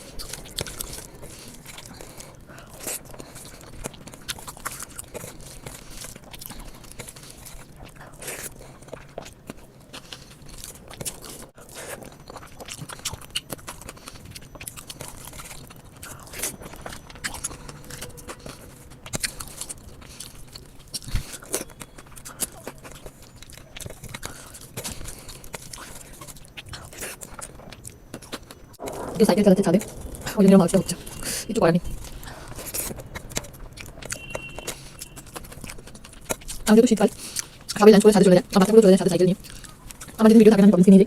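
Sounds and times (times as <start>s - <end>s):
food crunches: 0.0s - 29.2s, 29.8s - 37.8s
person chewing food: 0.0s - 40.8s.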